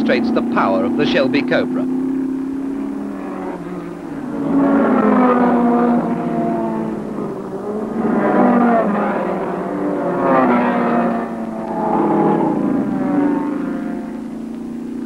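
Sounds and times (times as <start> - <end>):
racing cars passing: 0.0 - 15.0.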